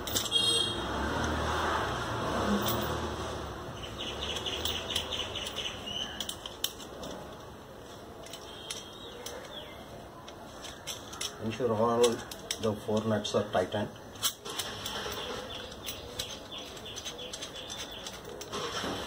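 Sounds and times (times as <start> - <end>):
light clicks of metal parts: 0.0 - 1.4, 2.5 - 3.1, 3.9 - 19.0.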